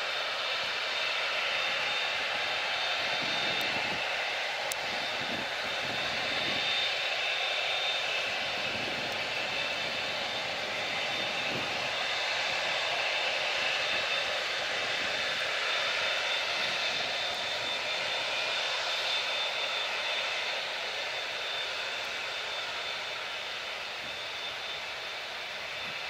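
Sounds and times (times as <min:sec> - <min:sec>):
high whining engine tones: 0:00.0 - 0:26.0
jet airliner engines roaring: 0:00.0 - 0:26.0.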